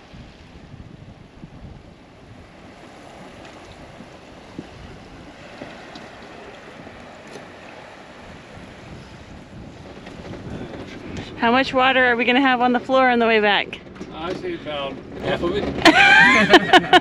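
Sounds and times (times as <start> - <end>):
small waves on rocky shore: 0.0 - 17.0
wind buffeting microphone: 0.0 - 17.0.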